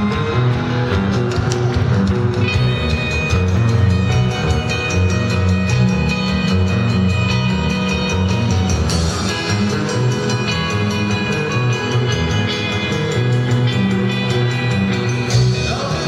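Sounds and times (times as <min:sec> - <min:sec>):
drum kit: 0:00.0 - 0:16.0
electric bass: 0:00.0 - 0:16.0
electric guitars: 0:00.0 - 0:16.0.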